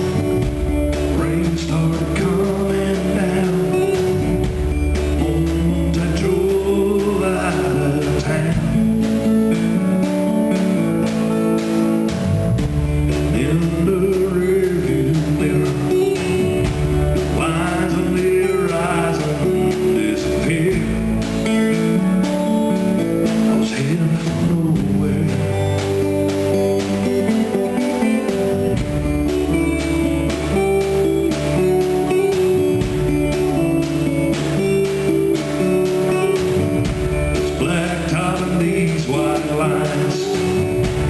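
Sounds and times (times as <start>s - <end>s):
live band playing country-rock: 0.0s - 41.0s.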